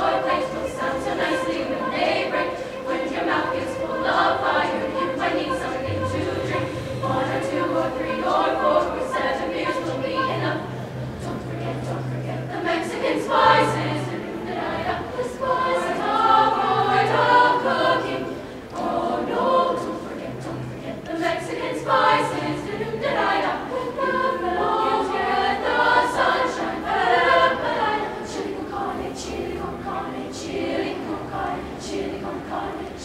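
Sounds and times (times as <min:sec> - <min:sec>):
women's choir singing a cappella: 0:00.0 - 0:33.0.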